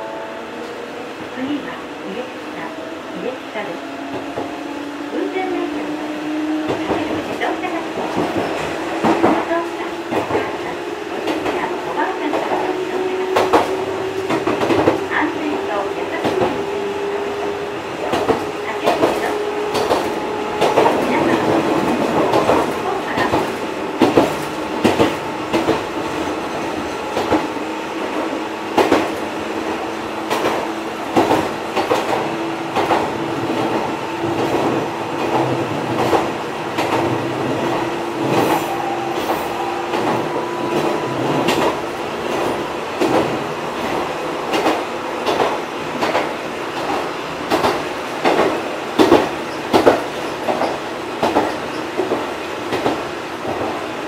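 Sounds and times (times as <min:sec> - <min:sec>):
railcar steady hum: 0:00.0 - 0:54.0
wheels clacking over rail joints: 0:06.6 - 0:53.8.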